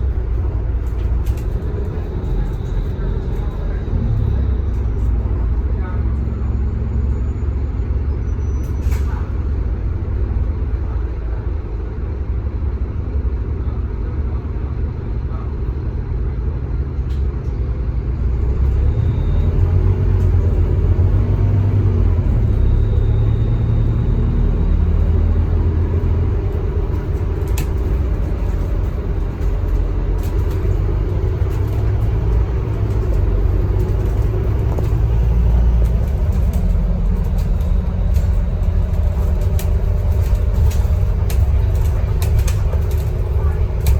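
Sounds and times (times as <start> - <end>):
bus diesel engine rumbling: 0.0 - 43.9.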